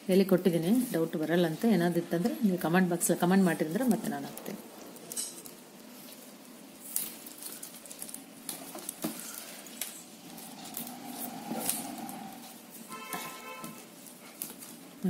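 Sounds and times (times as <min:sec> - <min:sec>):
plastic wire rustling: 0:00.6 - 0:15.0.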